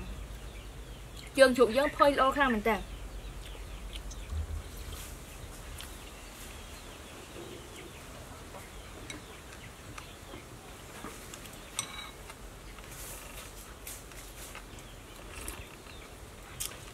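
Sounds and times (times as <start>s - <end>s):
birds calling: 0.0s - 16.9s.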